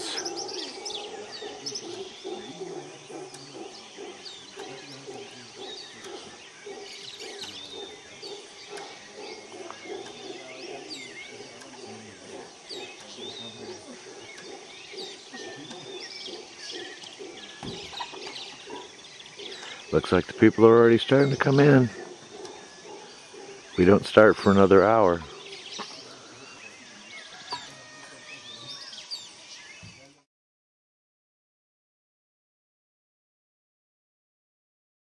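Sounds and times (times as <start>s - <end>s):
howler monkeys roaring: 0.0s - 29.3s
birds chirping: 0.0s - 30.3s.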